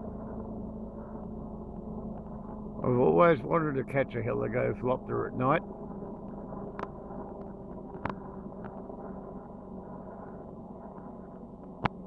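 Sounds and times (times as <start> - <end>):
distant helicopter drone: 0.0 - 12.0.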